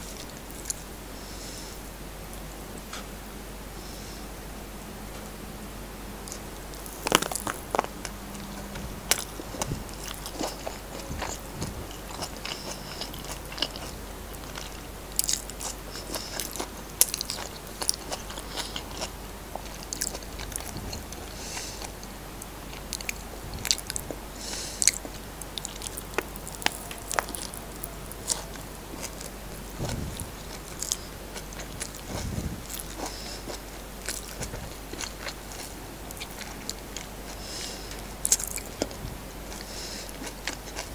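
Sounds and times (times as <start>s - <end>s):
chewing food: 0.0s - 0.9s, 6.2s - 40.9s.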